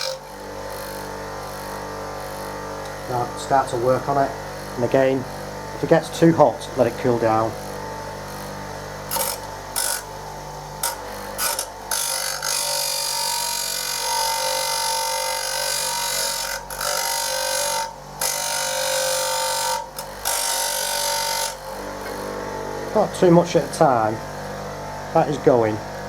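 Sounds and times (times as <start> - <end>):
chisel grinding on wheel: 0.0 - 5.2, 7.6 - 23.9
bench grinder motor humming: 0.0 - 26.0.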